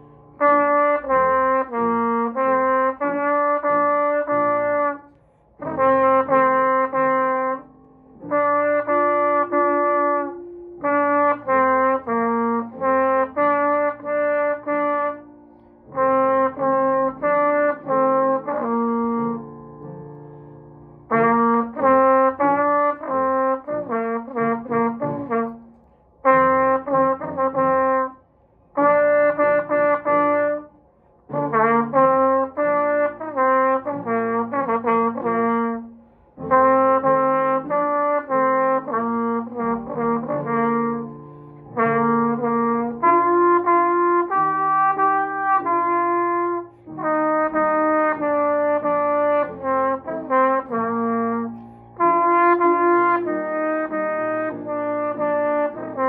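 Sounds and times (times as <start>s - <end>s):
solo trumpet melody: 0.0s - 56.0s.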